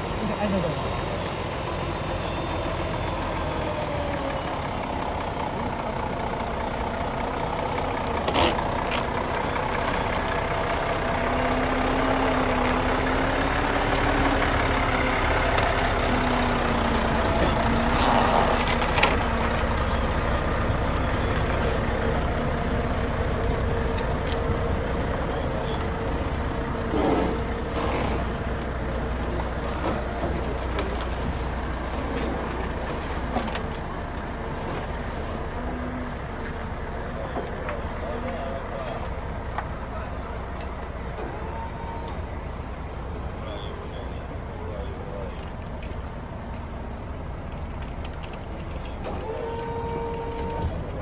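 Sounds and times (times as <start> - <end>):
road traffic noise: 0.0 - 51.0
truck engine running: 0.0 - 51.0.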